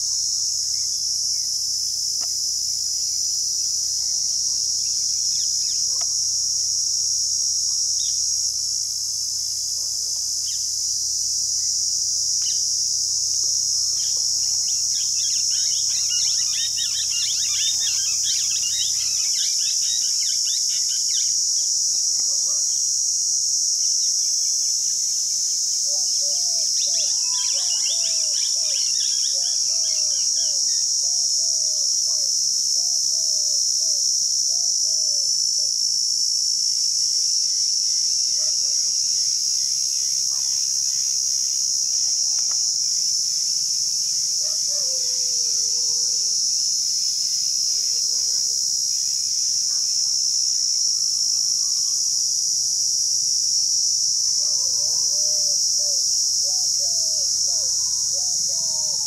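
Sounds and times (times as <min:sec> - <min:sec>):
cicada buzzing: 0:00.0 - 0:59.0.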